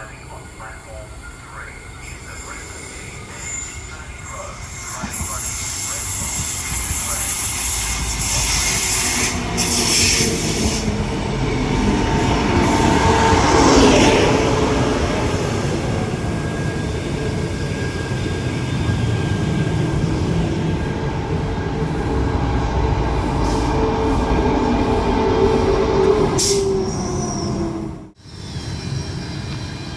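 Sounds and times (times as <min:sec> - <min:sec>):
electric train rail rumble: 0:00.0 - 0:29.9.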